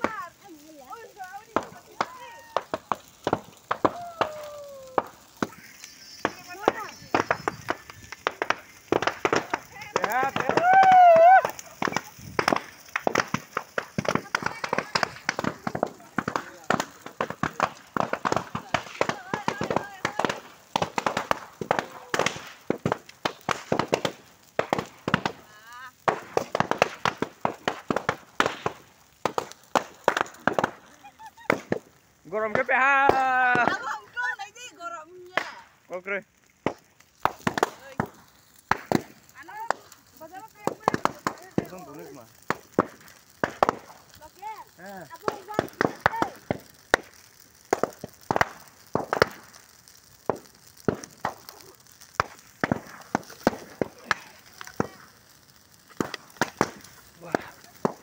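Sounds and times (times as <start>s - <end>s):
bonfire cracking and popping: 0.0s - 58.0s
faint hiss of flames: 0.0s - 58.0s.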